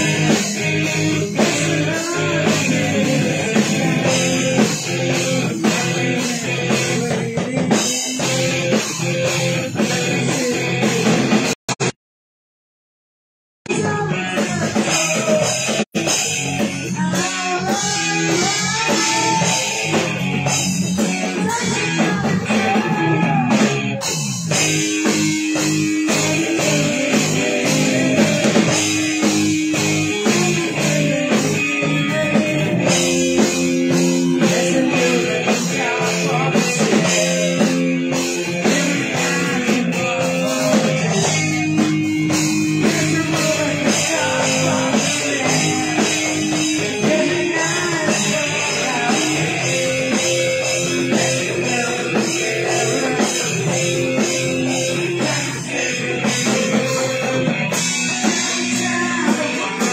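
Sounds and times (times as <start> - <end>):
person singing into a microphone: 0.0 - 11.5, 13.7 - 24.2, 25.0 - 59.9
electric bass: 0.0 - 11.9, 13.7 - 59.9
electric guitar: 0.0 - 11.9, 13.7 - 59.9
drum kit beat: 0.0 - 12.0, 13.7 - 59.9.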